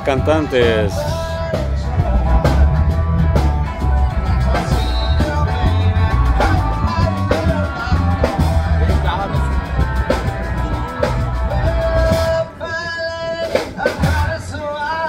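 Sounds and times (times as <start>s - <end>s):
steady drum beat: 0.0s - 12.5s
bass: 0.0s - 15.0s
electric guitars: 0.0s - 15.0s
keyboard: 0.0s - 15.0s.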